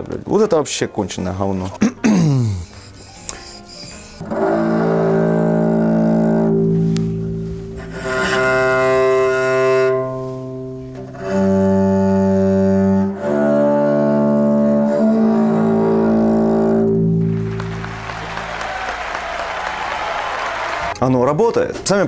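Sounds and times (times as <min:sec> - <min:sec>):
cello bowed long notes: 0:02.7 - 0:20.9.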